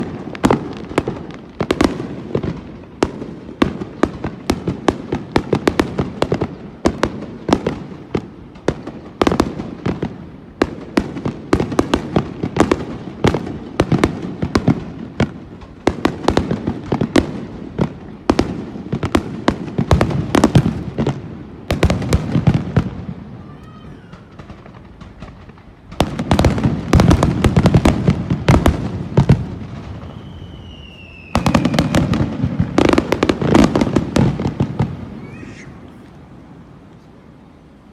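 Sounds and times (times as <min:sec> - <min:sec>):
fireworks bangs and crackles: 0:00.0 - 0:37.4.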